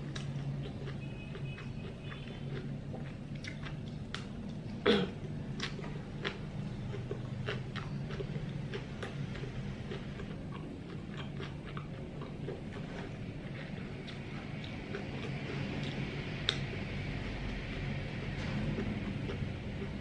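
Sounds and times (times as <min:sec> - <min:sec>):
chewing mouth clicks and smacks: 0:00.0 - 0:20.0.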